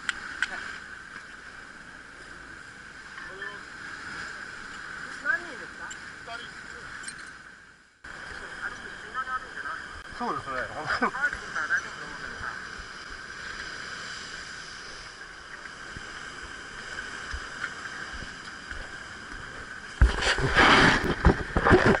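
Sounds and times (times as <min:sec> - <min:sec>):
boat engine droning: 0:00.9 - 0:20.1.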